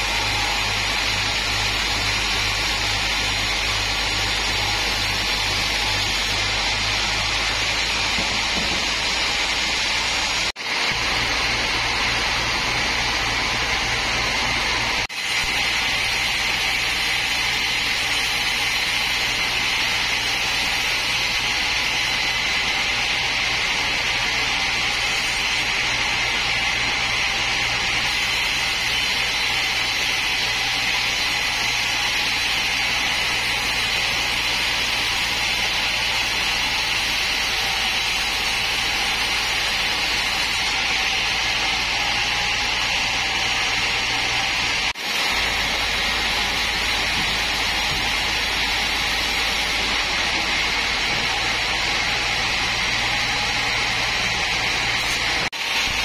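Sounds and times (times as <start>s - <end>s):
band saw cutting a log: 0.0s - 56.0s.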